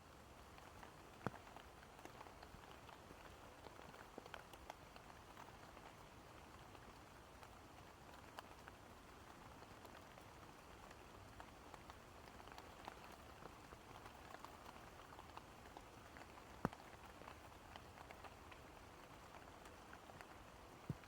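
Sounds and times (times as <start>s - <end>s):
faint steady rain: 0.0s - 21.0s
water drip ticks: 0.6s - 21.0s.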